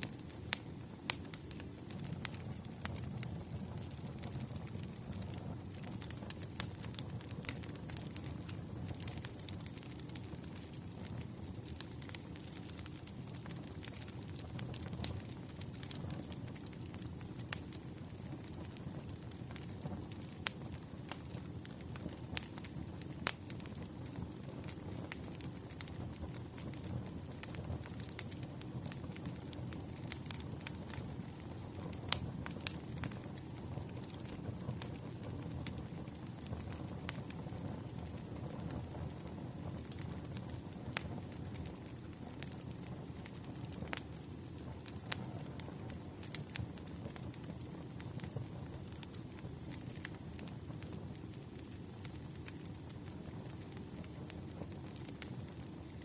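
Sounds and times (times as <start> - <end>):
fire low rumble: 0.0 - 56.0
wood fire crackling and popping: 0.0 - 56.0.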